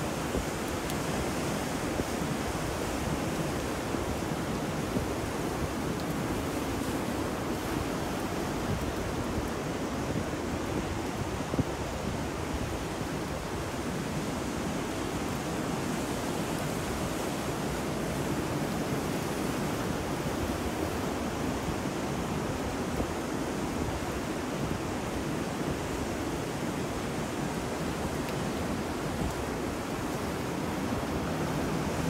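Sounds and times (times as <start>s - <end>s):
ocean waves: 0.0s - 32.0s
rain: 0.0s - 32.0s
wind: 0.0s - 32.0s.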